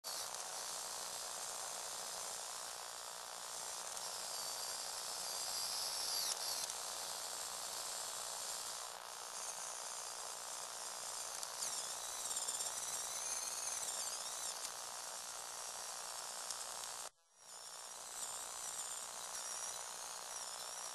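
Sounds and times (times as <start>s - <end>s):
small electric motor whirring: 0.1s - 20.9s.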